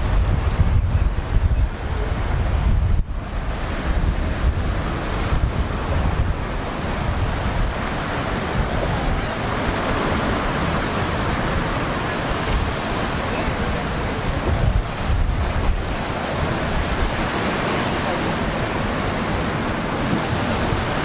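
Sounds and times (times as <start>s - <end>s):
waves rushing and breaking: 0.0s - 21.0s
wind buffeting microphone: 0.0s - 21.0s.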